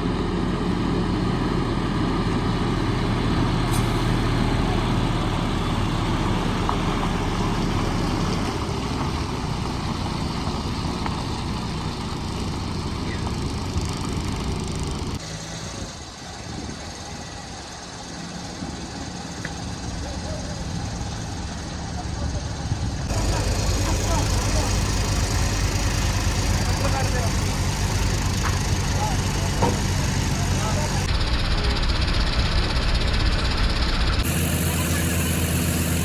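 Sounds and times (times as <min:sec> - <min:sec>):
truck engine humming: 0:00.0 - 0:36.0.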